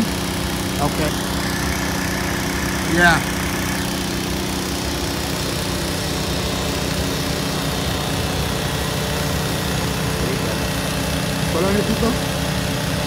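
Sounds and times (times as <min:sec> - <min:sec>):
engines idling: 0:00.0 - 0:13.0.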